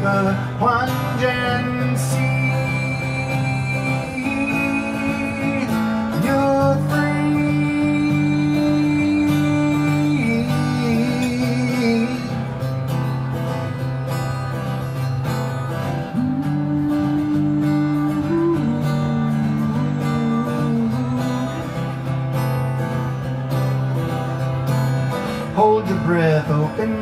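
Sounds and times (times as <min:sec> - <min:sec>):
strummed acoustic guitar: 0:00.0 - 0:27.0.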